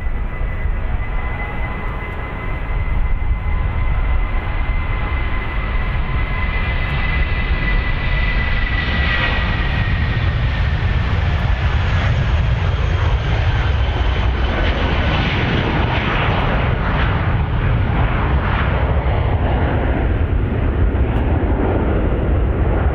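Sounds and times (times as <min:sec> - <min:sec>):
airliner engines running: 0:00.0 - 0:22.9.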